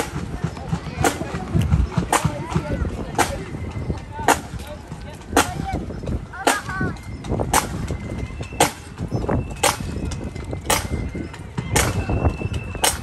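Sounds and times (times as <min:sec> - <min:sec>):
marching drum beats: 0:00.0 - 0:13.0
voices talking: 0:00.0 - 0:13.0.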